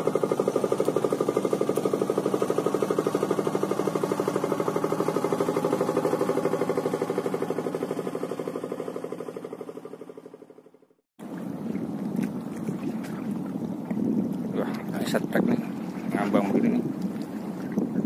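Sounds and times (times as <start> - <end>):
small boat engine chugging: 0.0 - 18.0.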